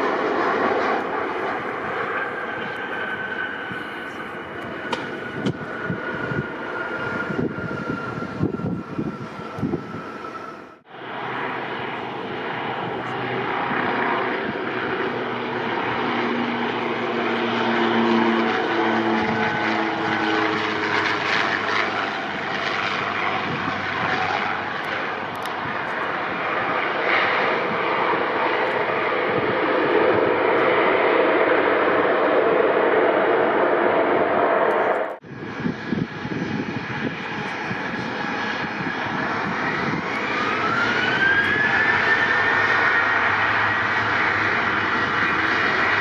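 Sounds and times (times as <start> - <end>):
turboprop plane landing: 0.0 - 46.0.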